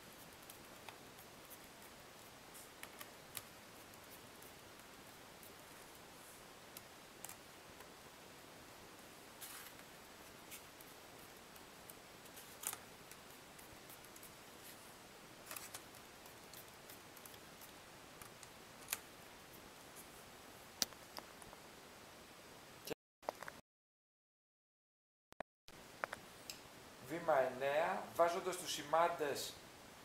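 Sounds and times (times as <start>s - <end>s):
steady low hiss: 0.0s - 23.0s, 25.7s - 30.0s.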